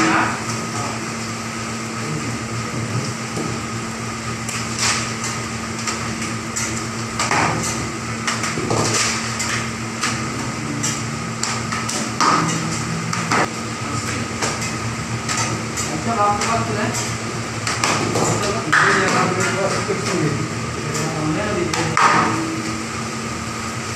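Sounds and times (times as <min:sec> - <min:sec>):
steady hum: 0:00.0 - 0:23.9.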